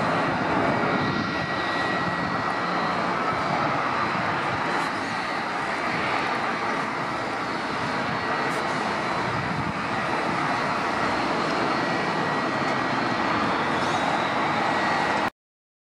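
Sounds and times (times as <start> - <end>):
jet engines running: 0.0 - 15.3.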